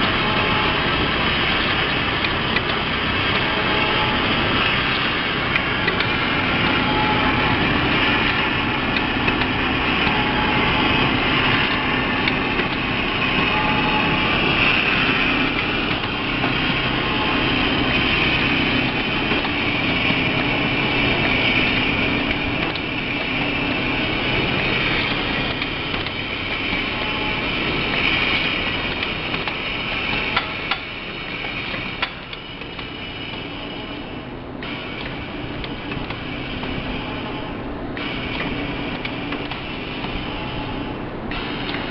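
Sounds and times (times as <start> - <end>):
sealing machine droning: 0.0 - 41.9.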